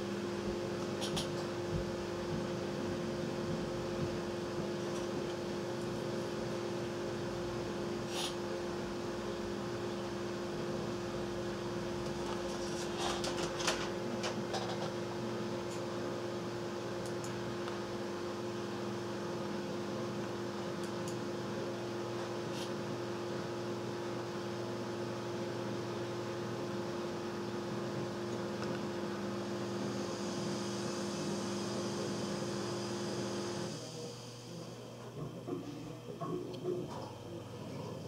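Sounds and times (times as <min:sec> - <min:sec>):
computer fan whirring: 0:00.0 - 0:38.0.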